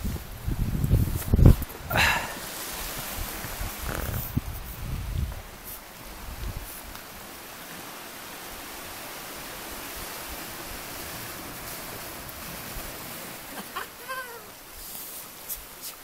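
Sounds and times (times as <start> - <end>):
sea surf hissing: 0.0 - 16.0.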